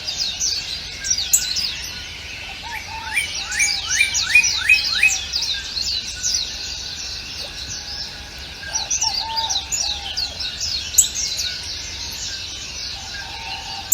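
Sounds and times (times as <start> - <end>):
low whistled bird notes: 0.0 - 13.9
songbirds chirping: 0.0 - 13.9.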